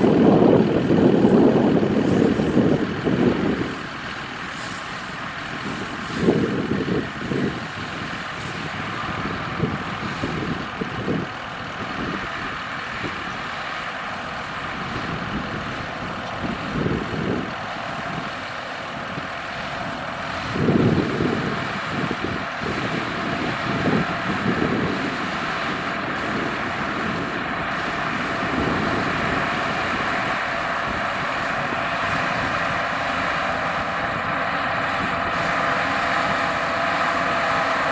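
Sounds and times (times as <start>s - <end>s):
tractor and baler running: 0.0s - 37.9s.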